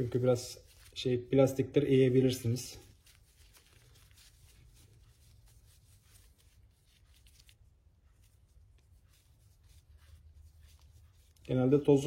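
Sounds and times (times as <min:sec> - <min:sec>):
cloth rubbing and scratching: 0:00.0 - 0:12.0.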